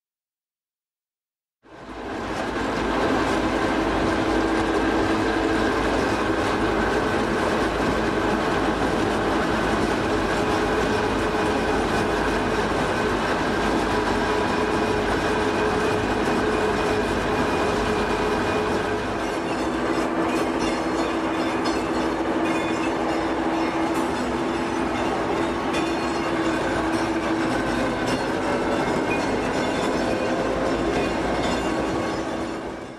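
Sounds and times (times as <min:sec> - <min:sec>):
wheels rumbling on track: 0:01.6 - 0:32.9.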